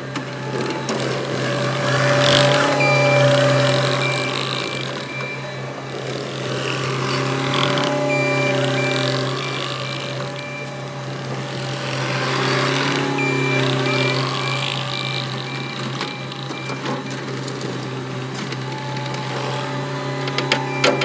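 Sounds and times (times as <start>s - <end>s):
backup alarm beeping: 0.0s - 21.0s
diesel engine running: 0.0s - 21.0s.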